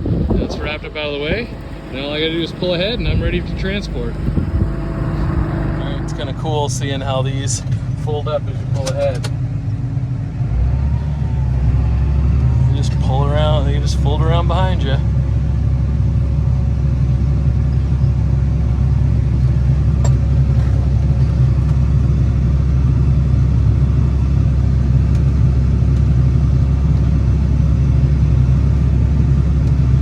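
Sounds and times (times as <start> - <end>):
tractor engine rumbling: 0.0 - 30.0.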